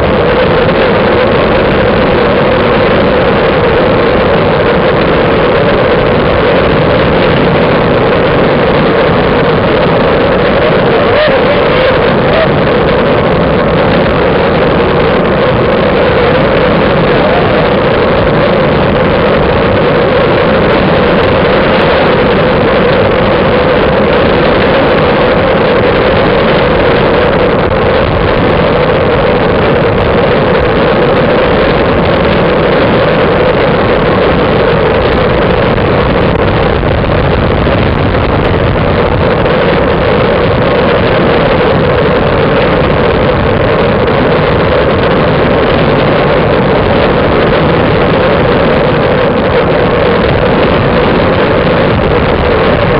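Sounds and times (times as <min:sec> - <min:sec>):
wind rush on microphone: 0:00.0 - 0:52.9.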